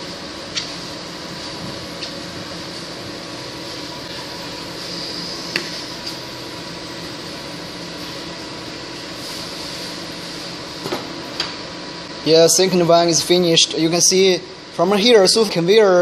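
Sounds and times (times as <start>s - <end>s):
laser machine hum and hiss: 0.0s - 16.0s.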